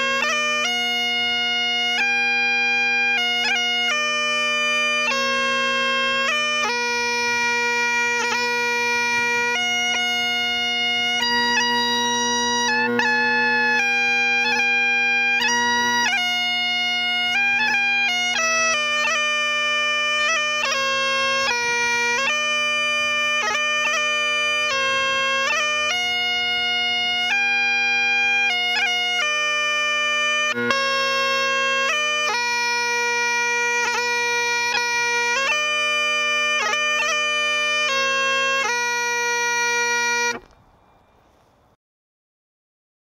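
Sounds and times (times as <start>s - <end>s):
bagpipe playing slow tune: 0.0s - 40.6s.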